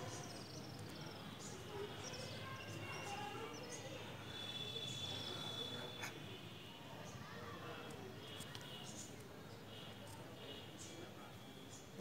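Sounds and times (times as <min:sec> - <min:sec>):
small birds chirping: 0:00.0 - 0:06.1, 0:07.0 - 0:12.0
steady background noise: 0:00.0 - 0:12.0.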